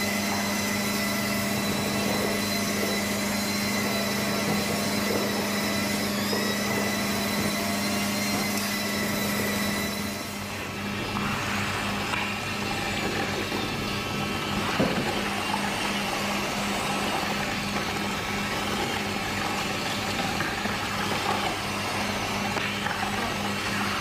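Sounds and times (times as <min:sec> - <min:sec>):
mechanical drone with low hum: 0:00.0 - 0:24.0.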